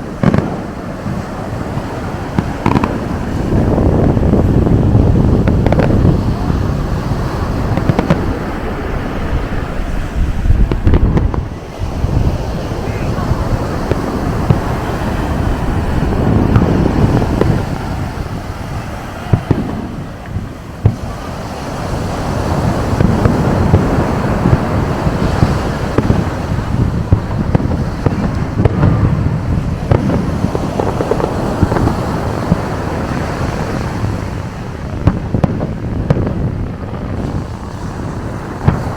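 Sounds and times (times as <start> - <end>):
fireworks booming and crackling: 0.0 - 38.9
sharp fireworks bangs: 0.0 - 38.9.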